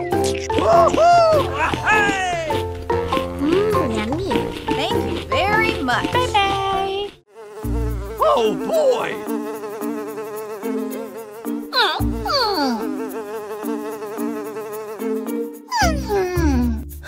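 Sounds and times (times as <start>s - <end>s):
flies buzzing: 0.1s - 16.9s.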